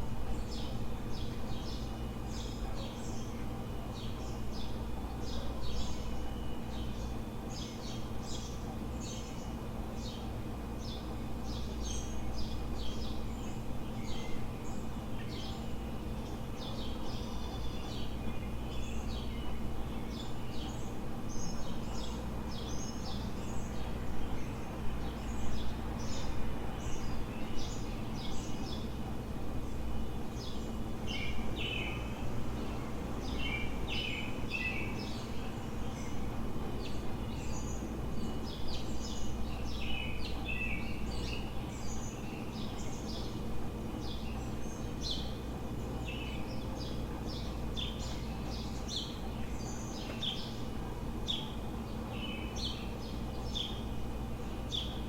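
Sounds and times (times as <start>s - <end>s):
low city hum: 0.0s - 55.0s
songbirds chirping and singing: 0.0s - 55.0s.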